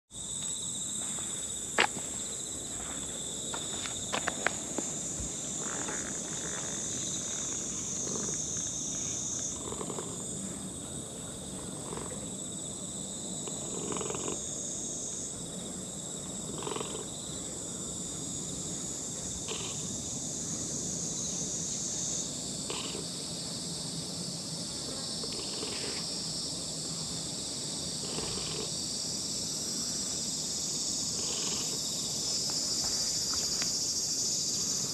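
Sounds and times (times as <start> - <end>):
insects buzzing: 0.1 - 34.9.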